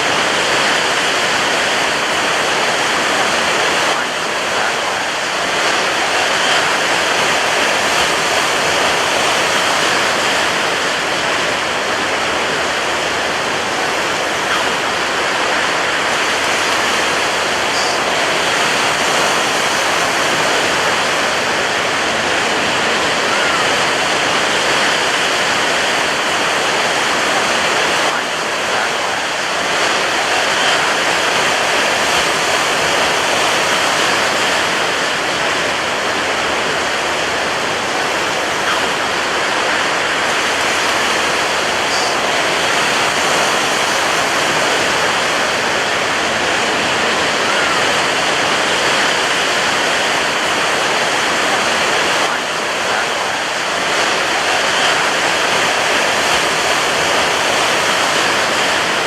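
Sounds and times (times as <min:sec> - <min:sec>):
ocean waves crashing on beach: 0:00.0 - 0:59.0.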